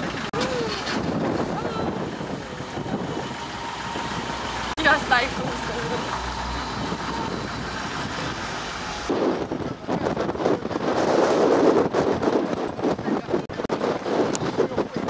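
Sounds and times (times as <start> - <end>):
jeep engine running: 0.0 - 14.9
wind buffeting microphone: 0.0 - 15.0.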